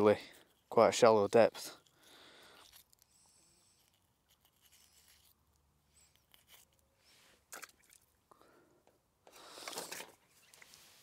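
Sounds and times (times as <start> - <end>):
hands handling fishing tackle: 0.0 - 8.2, 8.8 - 11.0.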